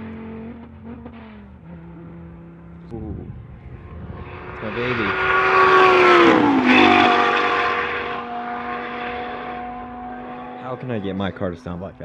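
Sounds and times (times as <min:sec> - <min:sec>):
sports car passing at speed: 0:00.0 - 0:12.0.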